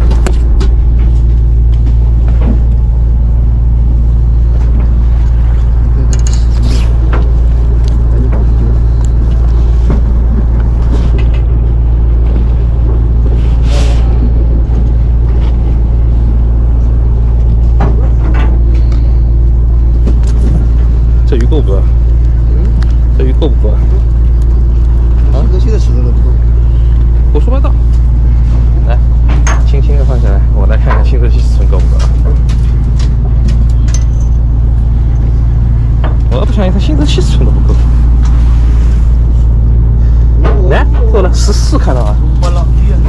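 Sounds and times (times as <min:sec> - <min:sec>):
boat engine droning: 0:00.0 - 0:43.0.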